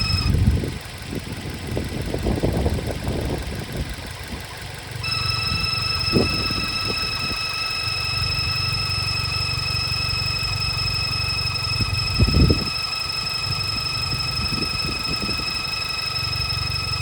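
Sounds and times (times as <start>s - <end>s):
car engine idling: 0.0s - 17.0s
high-pitched engine whine: 0.0s - 17.0s.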